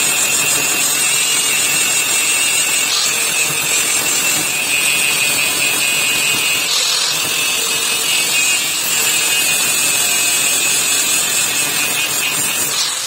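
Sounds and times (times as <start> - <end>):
abrasive power tool hissing: 0.0 - 13.0.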